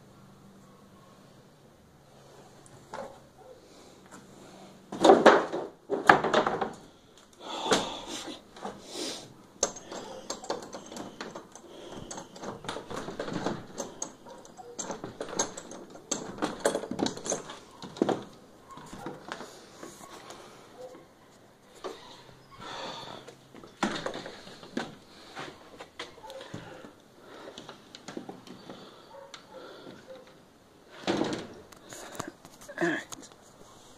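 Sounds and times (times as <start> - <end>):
knocks creaks and clatter: 4.9 - 8.8, 9.5 - 33.6.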